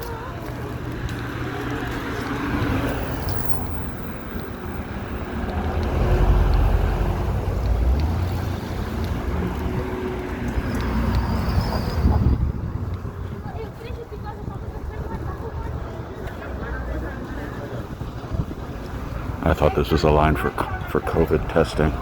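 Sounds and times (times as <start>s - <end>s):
wind buffeting microphone: 0.0s - 19.8s.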